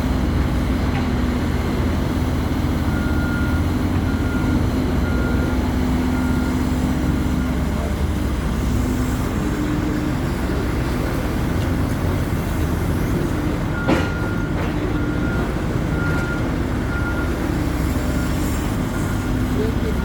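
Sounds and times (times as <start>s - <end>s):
excavator engine and hydraulics: 0.0s - 20.0s.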